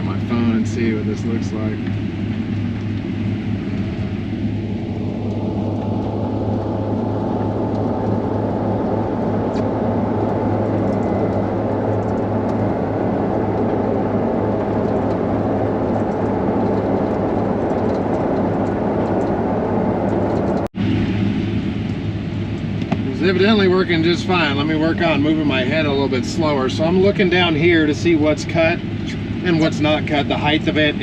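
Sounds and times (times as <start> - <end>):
combine harvester engine droning: 0.0 - 31.0.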